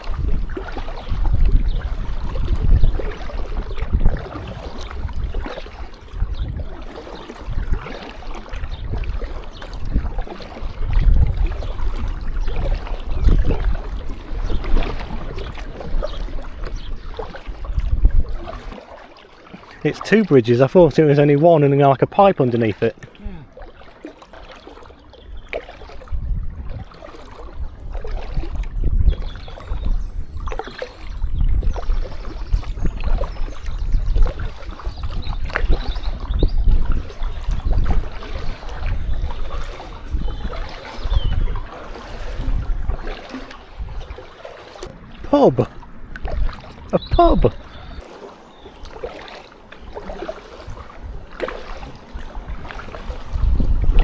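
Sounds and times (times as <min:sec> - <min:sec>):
wind buffeting microphone: 0:00.0 - 0:18.8, 0:25.2 - 0:49.2, 0:49.8 - 0:54.0
kayak paddle strokes: 0:00.0 - 0:54.0
water splashing around hull: 0:00.0 - 0:54.0.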